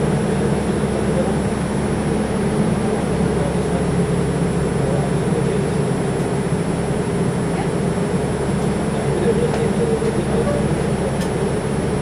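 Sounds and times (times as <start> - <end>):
subway car rumbling: 0.0 - 12.0.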